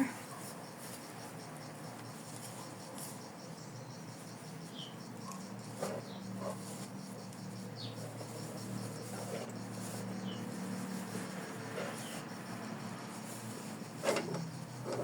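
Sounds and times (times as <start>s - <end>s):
stuffing rustling and scratching: 0.1s - 15.0s.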